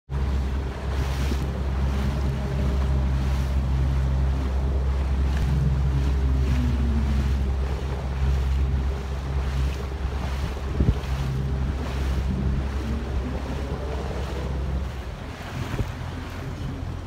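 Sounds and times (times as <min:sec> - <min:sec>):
motorboat engine humming: 0:00.1 - 0:17.0
wind buffeting microphone: 0:00.1 - 0:17.0.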